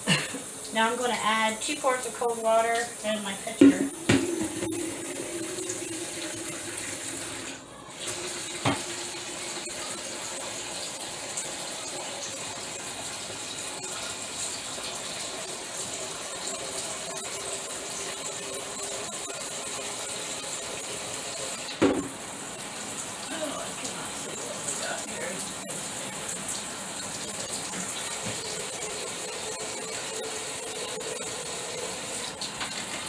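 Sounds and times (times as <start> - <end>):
faucet water filling pitcher: 0.0 - 33.0.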